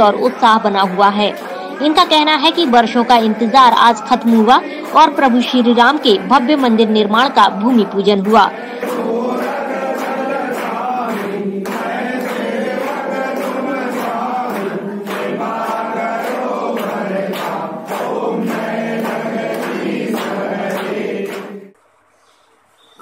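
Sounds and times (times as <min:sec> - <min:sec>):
group singing a hymn: 0:00.0 - 0:21.8.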